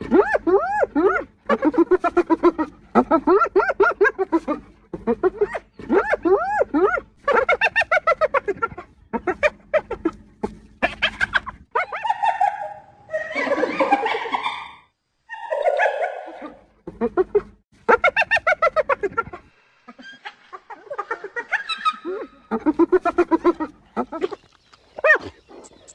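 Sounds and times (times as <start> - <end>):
hyenas giggling: 0.0 - 25.9.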